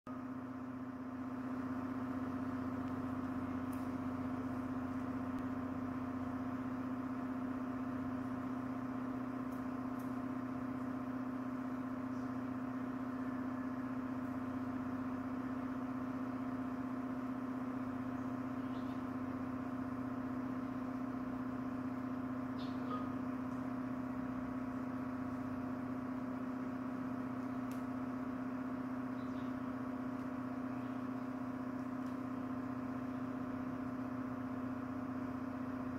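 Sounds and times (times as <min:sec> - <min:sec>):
machine hum: 0:00.1 - 0:35.9.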